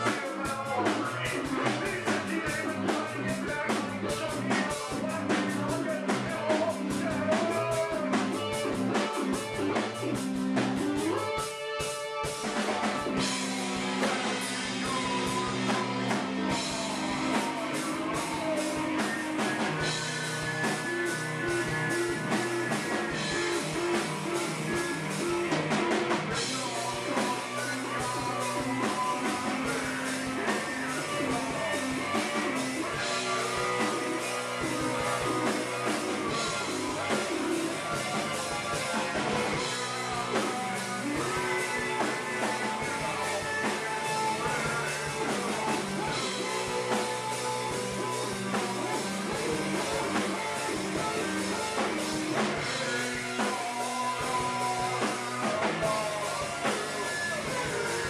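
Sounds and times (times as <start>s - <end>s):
drum kit: 0.0s - 58.0s
electric guitar: 0.0s - 58.0s
person singing: 0.0s - 58.0s.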